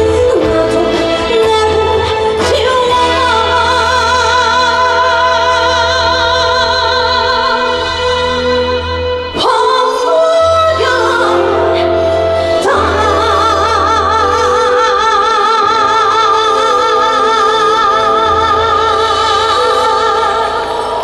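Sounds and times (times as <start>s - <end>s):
band accompaniment: 0.0s - 21.0s
woman singing a ballad: 0.0s - 21.0s.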